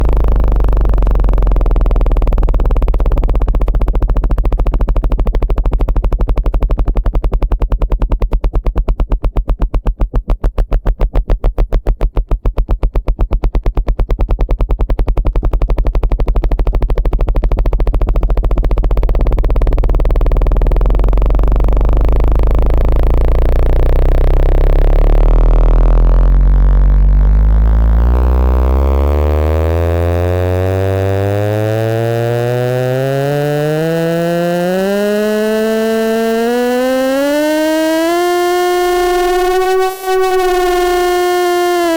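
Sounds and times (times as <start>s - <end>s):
deep pulsing synthetic tone: 0.0s - 41.9s.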